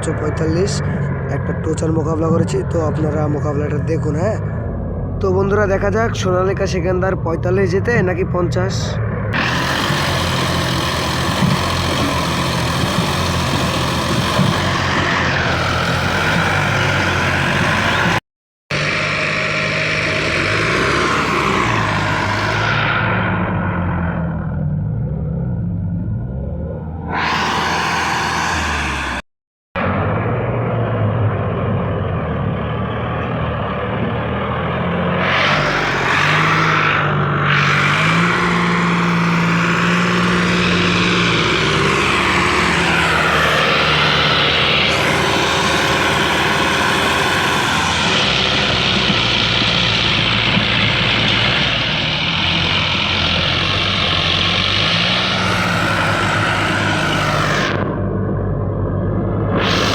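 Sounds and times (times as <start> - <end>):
tractor diesel engines under load: 0.0 - 29.2, 29.8 - 59.9.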